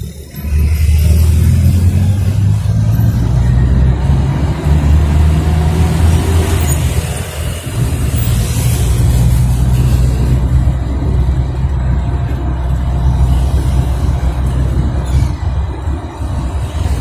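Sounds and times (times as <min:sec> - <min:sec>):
minibus engine drone: 0:00.0 - 0:17.0.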